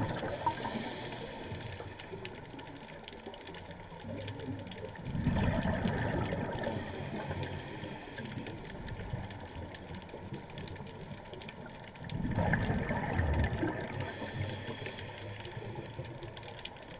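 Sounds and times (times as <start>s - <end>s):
underwater water noise: 0.0s - 16.9s.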